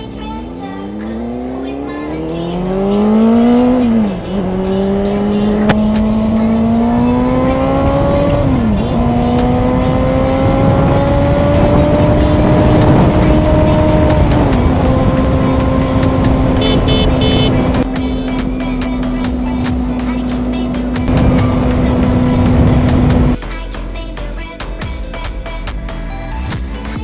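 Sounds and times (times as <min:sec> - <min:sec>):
motorcycle engine accelerating: 0:00.0 - 0:23.4.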